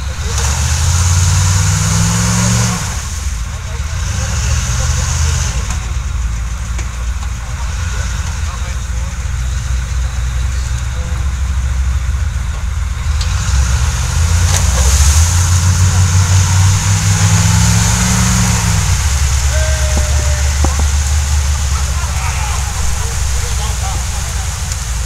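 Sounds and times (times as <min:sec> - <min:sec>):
diesel engines under load: 0:00.0 - 0:25.0.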